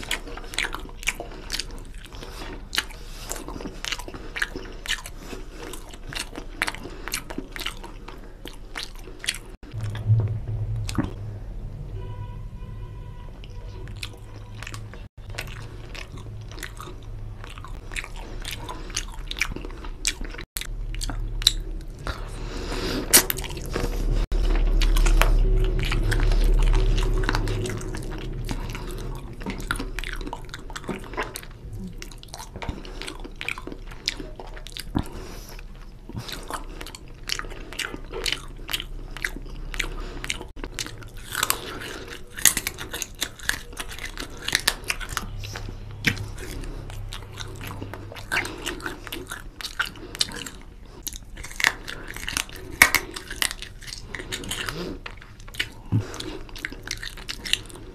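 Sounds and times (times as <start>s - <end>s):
chewing with mouth clicks and smacks: 0.0s - 10.2s, 13.3s - 57.9s.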